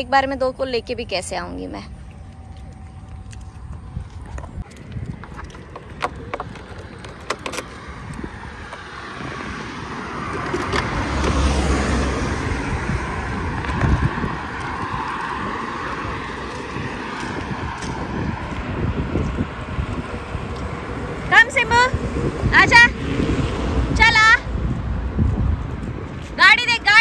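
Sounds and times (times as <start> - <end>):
tyre and road noise: 0.0 - 27.0.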